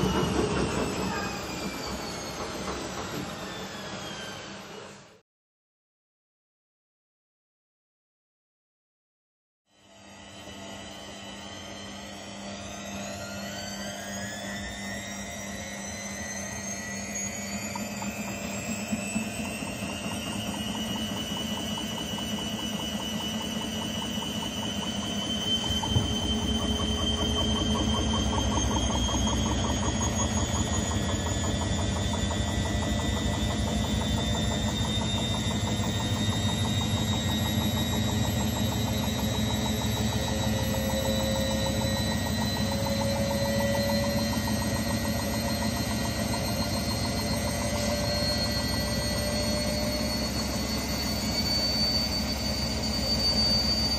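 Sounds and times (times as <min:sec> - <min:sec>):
washing machine motor whine: 0:00.0 - 0:05.2, 0:09.7 - 0:53.9.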